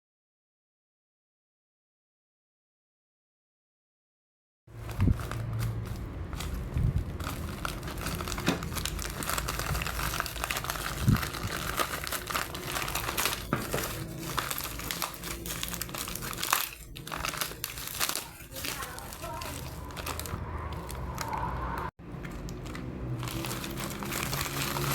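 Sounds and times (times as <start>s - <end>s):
packaging crinkling and rustling: 4.7s - 24.9s.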